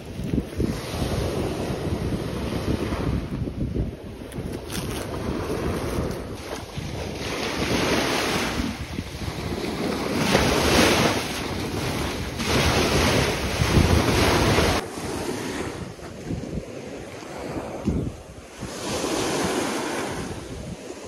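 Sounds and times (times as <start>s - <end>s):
small waves on sandy shore: 0.0s - 21.0s
wind buffeting microphone: 0.0s - 21.0s.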